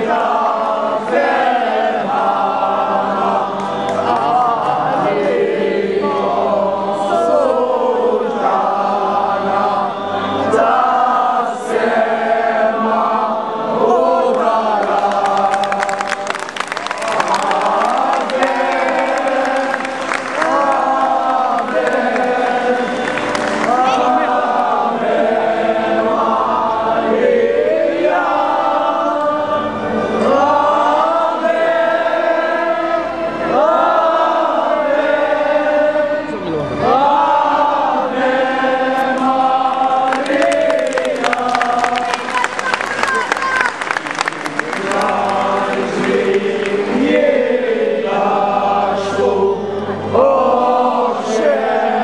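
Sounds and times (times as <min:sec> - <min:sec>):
crowd singing a hymn: 0:00.0 - 0:52.0.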